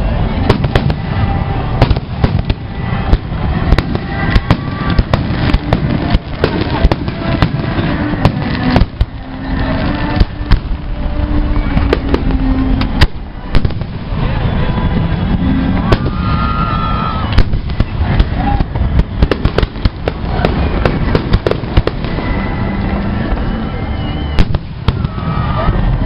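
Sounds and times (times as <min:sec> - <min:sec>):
fireworks bangs: 0:00.0 - 0:26.0
low rumble of explosions: 0:00.0 - 0:26.0.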